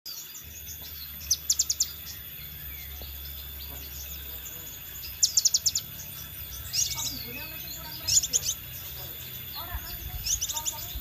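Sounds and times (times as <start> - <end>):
faint chirping: 0.1 - 11.0
low steady hum: 0.1 - 11.0.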